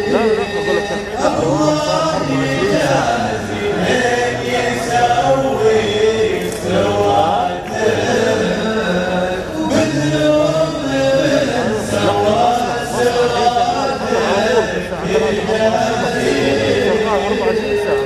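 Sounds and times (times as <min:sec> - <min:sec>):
men chanting in harmony: 0:00.0 - 0:18.0.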